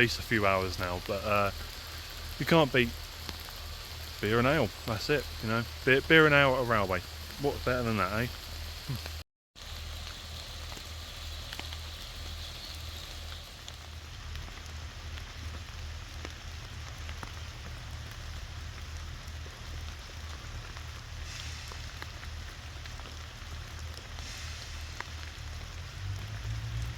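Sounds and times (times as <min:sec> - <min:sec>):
low rumble: 0:00.0 - 0:26.9
steady rain falling: 0:00.0 - 0:26.9.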